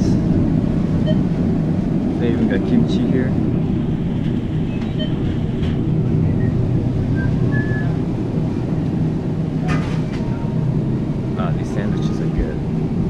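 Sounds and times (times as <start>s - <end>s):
store background rumble: 0.0s - 13.0s.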